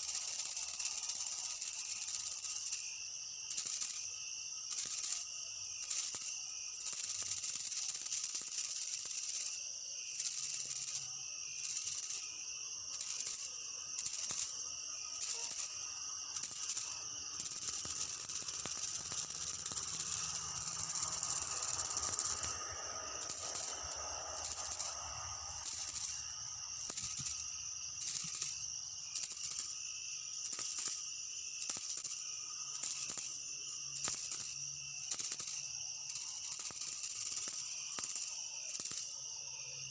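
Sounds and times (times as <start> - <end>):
insects buzzing chorus: 0.0 - 39.9.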